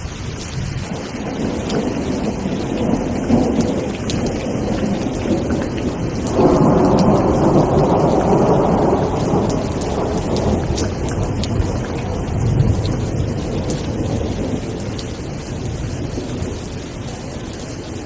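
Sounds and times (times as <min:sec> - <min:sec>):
steady rain falling: 0:00.0 - 0:18.0
thunder rumbling: 0:00.0 - 0:18.0.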